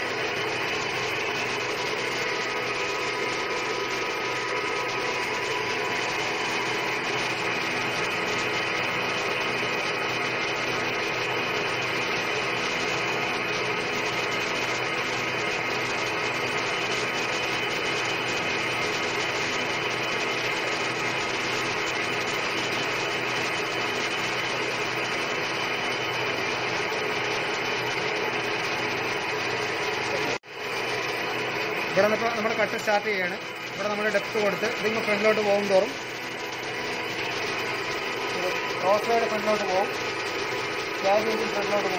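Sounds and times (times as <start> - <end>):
lathe whirring with gear noise: 0.0 - 41.9.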